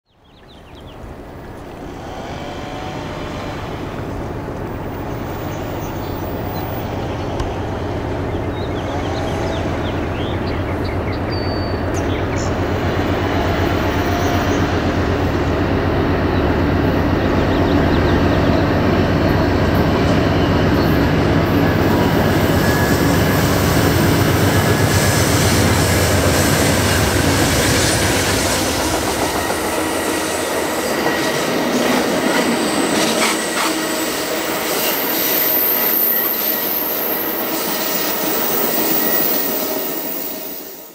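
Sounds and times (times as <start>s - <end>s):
diesel locomotive engines droning: 0.1s - 40.9s
train cars rumbling on rails: 0.1s - 40.9s.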